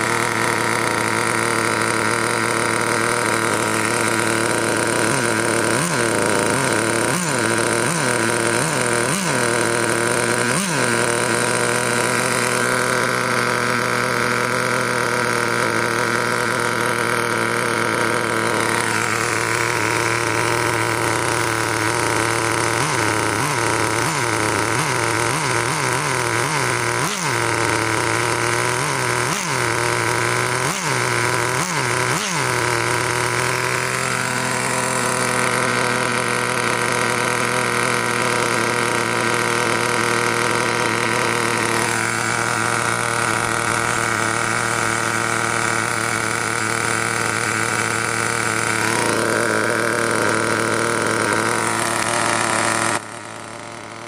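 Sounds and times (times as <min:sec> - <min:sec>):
engine throttle blips: 0:00.0 - 0:54.0
model engine idling: 0:00.0 - 0:54.0.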